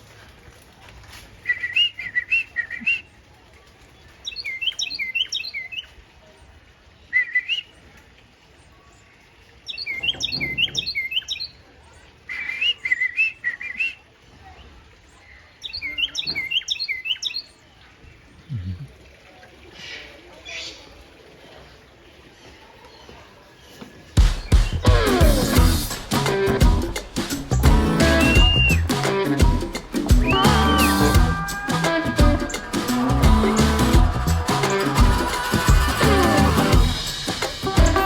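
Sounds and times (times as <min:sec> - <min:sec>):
birds chirping: 0:04.0 - 0:06.0, 0:08.6 - 0:38.0.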